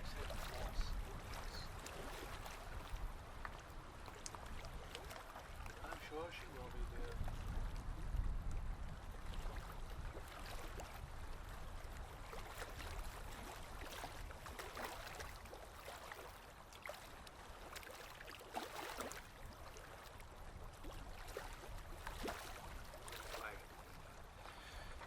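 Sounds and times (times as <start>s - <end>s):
water splashing around a boat: 0.0s - 25.0s.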